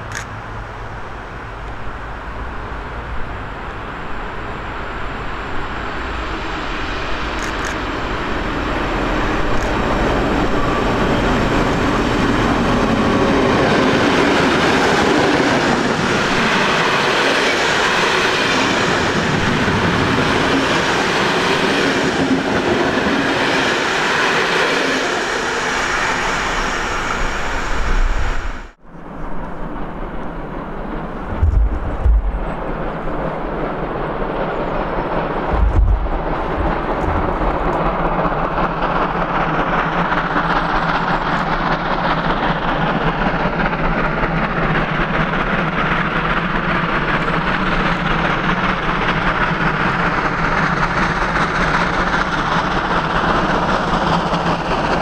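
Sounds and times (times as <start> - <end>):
steam locomotive passing: 0.0 - 55.0
train wheels on rails: 0.0 - 55.0.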